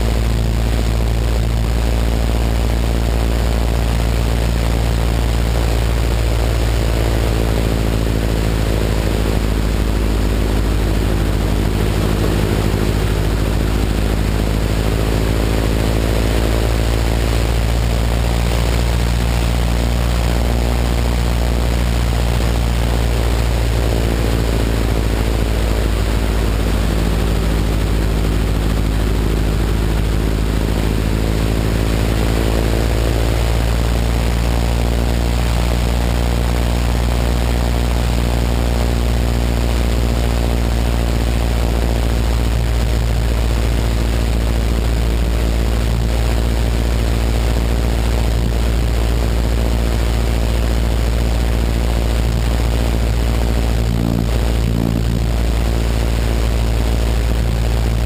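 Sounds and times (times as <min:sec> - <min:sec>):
biplane engine droning: 0:00.0 - 0:58.0.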